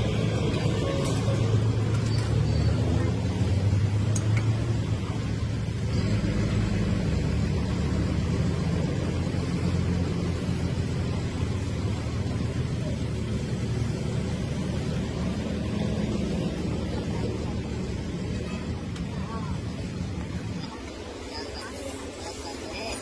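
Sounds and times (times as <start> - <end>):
vehicle engine running steadily: 0.0 - 23.0.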